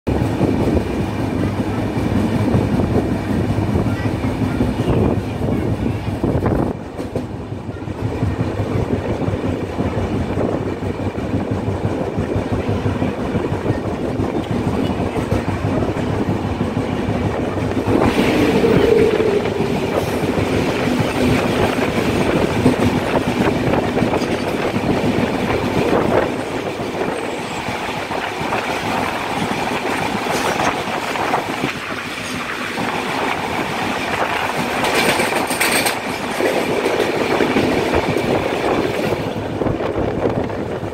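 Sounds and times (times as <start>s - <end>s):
train coach rumbling: 0.0s - 40.9s
goods train rushing past: 0.1s - 40.9s.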